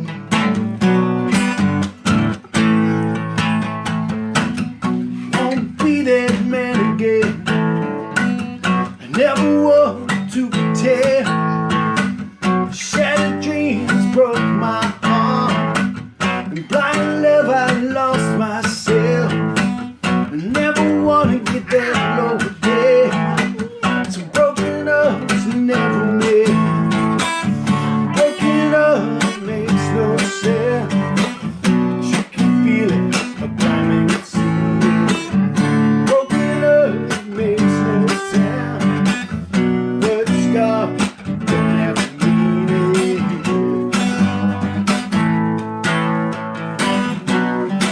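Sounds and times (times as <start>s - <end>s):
acoustic guitar strumming and picking: 0.0s - 47.9s.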